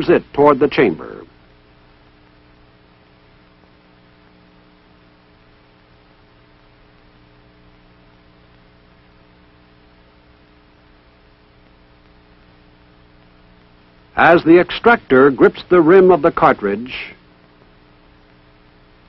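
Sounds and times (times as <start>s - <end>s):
faint electrical hum: 0.0s - 19.0s
film soundtrack hiss: 0.0s - 19.0s.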